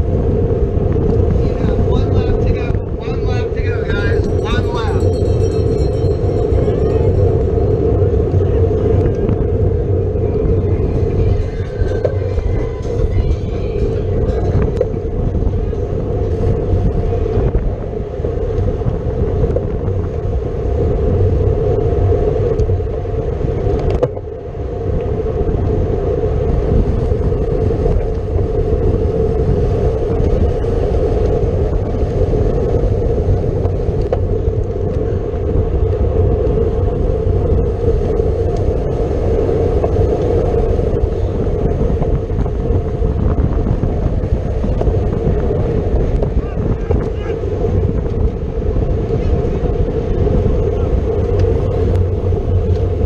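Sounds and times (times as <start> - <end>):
bicycle tyre noise: 0.0 - 53.0
wind rushing over microphone: 0.0 - 53.0.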